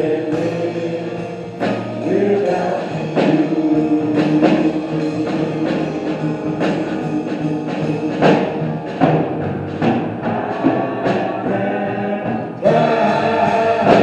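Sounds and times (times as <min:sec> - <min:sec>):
drums keeping the beat: 0:00.0 - 0:14.0
gospel band and singers: 0:00.0 - 0:14.0.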